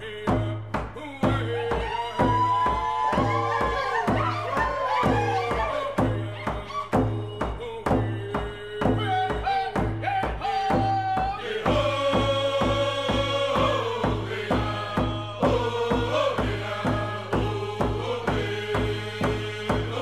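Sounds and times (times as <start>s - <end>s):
even drum beat: 0.0s - 20.0s
chanted singing: 1.0s - 20.0s.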